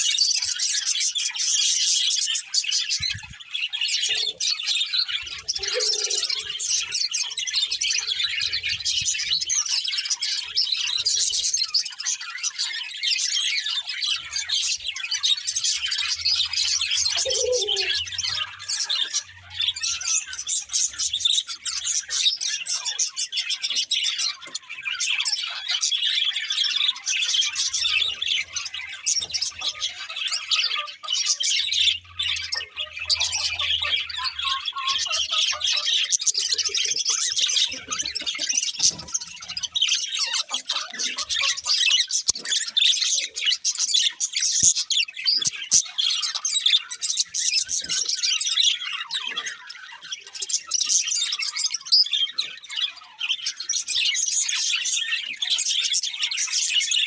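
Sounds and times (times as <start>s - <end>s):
budgerigars chirping: 0.0s - 57.0s.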